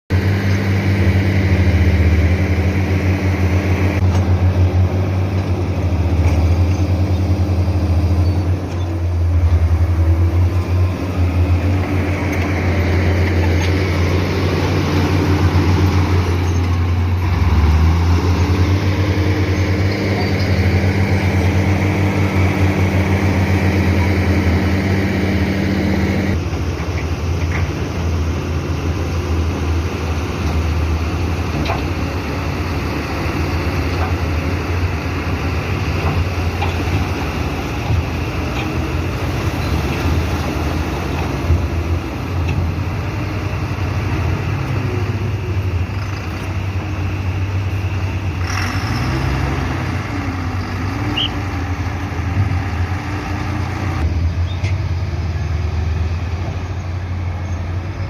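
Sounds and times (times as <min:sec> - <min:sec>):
heavy diesel engine running: 0:00.1 - 0:58.0.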